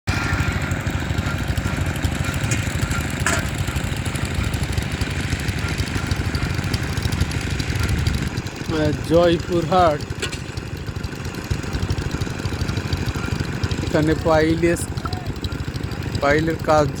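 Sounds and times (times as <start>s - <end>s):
small engine running: 0.1s - 17.0s.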